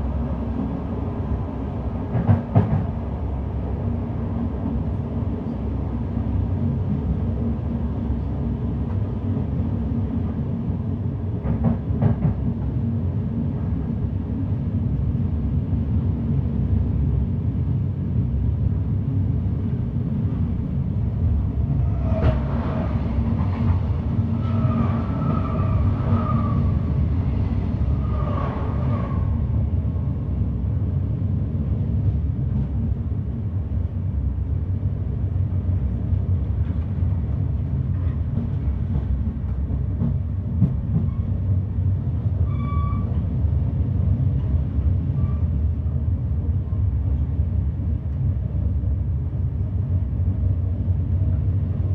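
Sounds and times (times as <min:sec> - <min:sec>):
train rumbling: 0:00.0 - 0:51.9.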